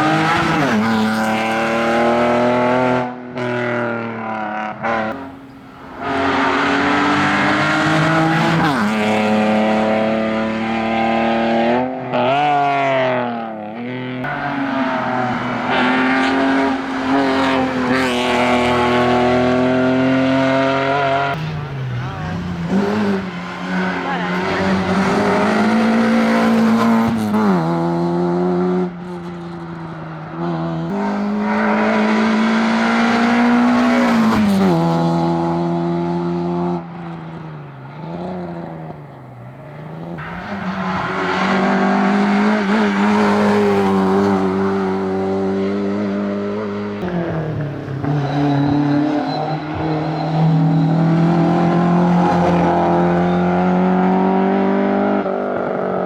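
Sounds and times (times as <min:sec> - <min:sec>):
rally car engine at high revs: 0:00.0 - 0:56.0.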